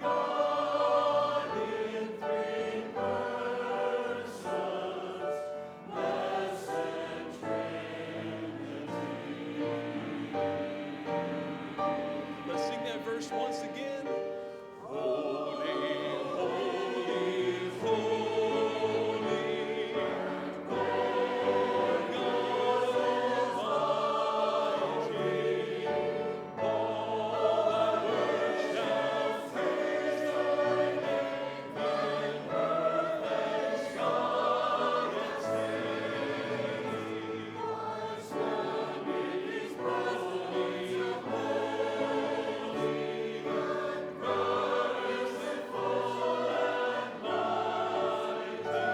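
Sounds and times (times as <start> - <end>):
choir singing in harmony: 0.0 - 48.9.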